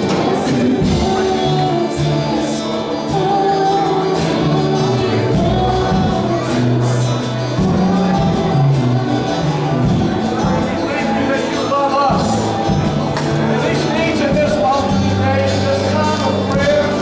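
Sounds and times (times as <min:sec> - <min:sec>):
bass line: 0:00.0 - 0:17.0
live worship music with singing: 0:00.0 - 0:17.0
percussion beat: 0:00.0 - 0:17.0.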